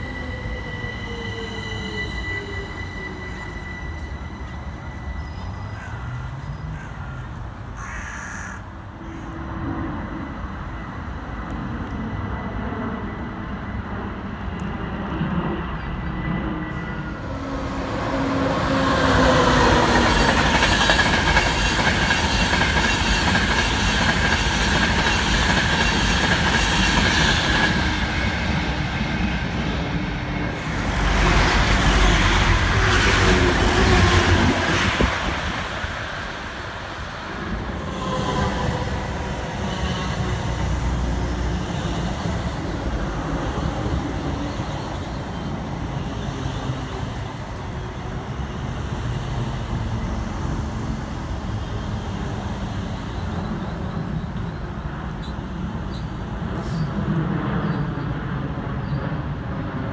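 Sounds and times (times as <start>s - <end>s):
electric train whine: 0.0s - 7.7s, 8.8s - 59.9s
express train rush and rumble: 0.0s - 59.9s.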